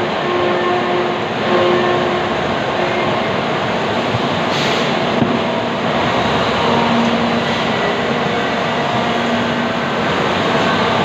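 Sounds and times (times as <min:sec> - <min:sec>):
loud machinery roar: 0:00.0 - 0:11.0.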